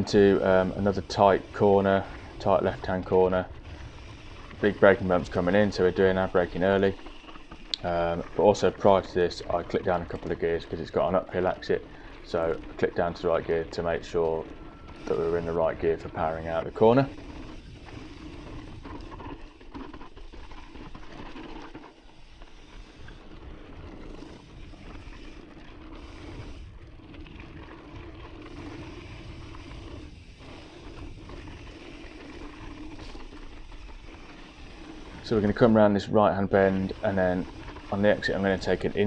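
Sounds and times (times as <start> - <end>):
bike rattling over bumps: 0.0 - 39.0
tyres rolling over loose dirt: 0.0 - 39.0.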